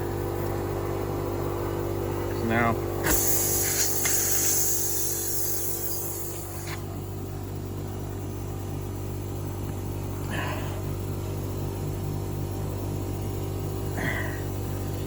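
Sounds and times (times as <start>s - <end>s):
low pulsing mechanical hum: 0.0s - 15.0s.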